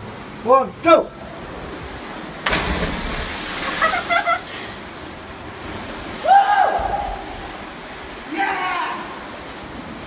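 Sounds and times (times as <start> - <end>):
sea water rushing in rock cave: 0.0 - 10.0.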